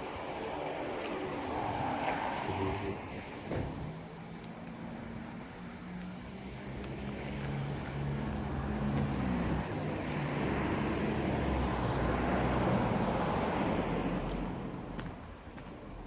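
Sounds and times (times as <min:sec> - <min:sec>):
vehicle passing: 0:00.4 - 0:15.4.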